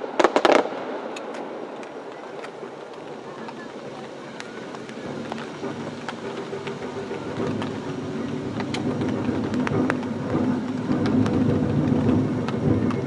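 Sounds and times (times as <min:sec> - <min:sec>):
firework crackles and pops: 0:00.0 - 0:13.0
rumble of firework bursts: 0:00.0 - 0:13.0.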